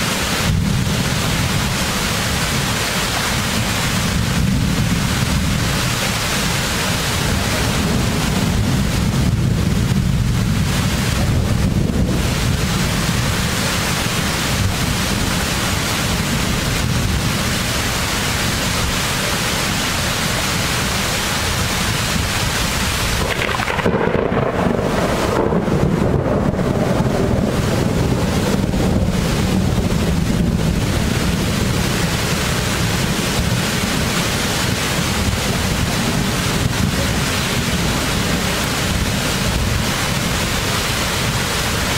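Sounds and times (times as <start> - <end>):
heavy rain: 0.0 - 41.9
wind buffeting microphone: 0.1 - 41.9
thunder rolling: 0.2 - 17.6, 22.1 - 41.9.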